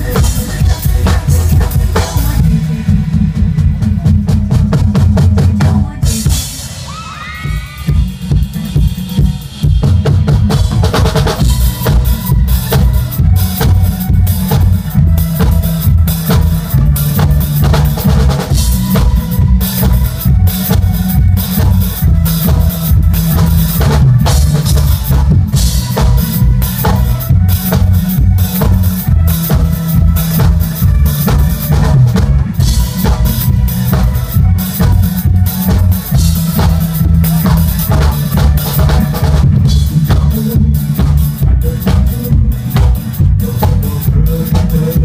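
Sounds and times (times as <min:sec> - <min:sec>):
pop backing track: 0:00.0 - 0:45.0.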